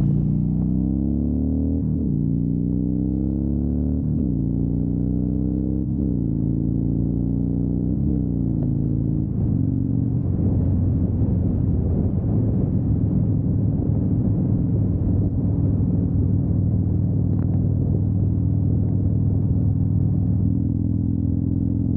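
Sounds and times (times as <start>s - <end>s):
motorcycle engine rumbling: 0.0s - 3.3s, 5.9s - 21.9s.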